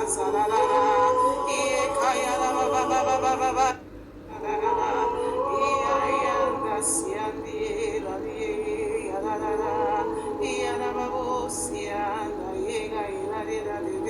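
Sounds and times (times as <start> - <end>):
person singing in tongues: 0.0 - 14.0.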